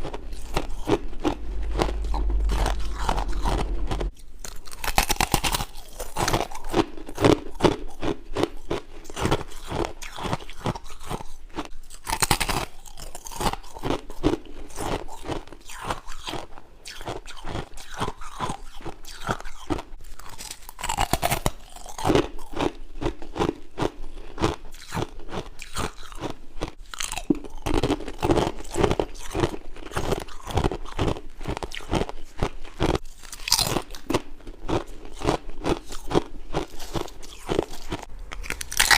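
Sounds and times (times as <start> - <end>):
person chewing ice: 0.0 - 38.9.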